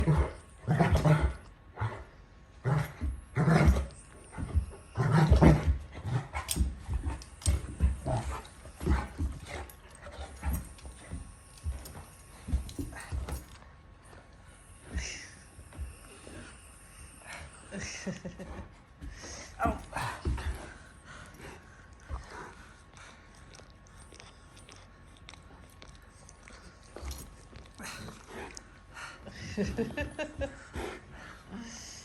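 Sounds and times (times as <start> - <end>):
dogs growling: 0.0 - 32.0.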